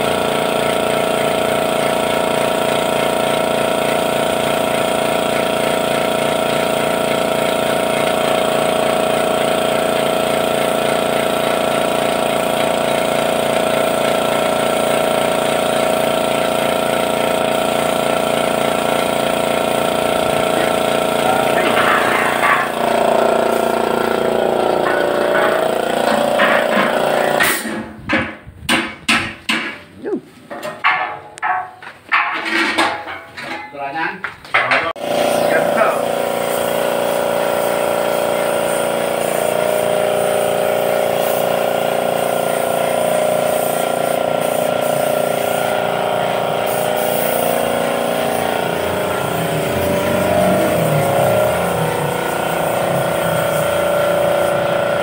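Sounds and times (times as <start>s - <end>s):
spray gun hissing: 0.0s - 27.6s, 35.0s - 55.0s
compressor motor running: 0.0s - 28.1s, 35.0s - 55.0s
short bursts of spraying: 0.4s - 27.7s, 35.0s - 55.0s.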